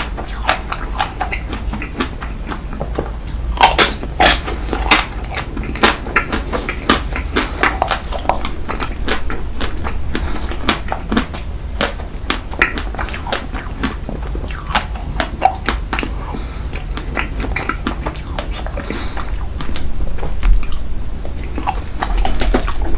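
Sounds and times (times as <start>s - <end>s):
person chewing: 0.0s - 22.9s.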